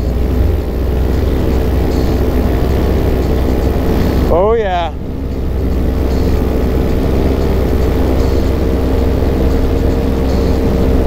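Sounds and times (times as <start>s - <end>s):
constant rushing noise: 0.0s - 11.0s
paramotor engine and propeller: 0.0s - 11.0s.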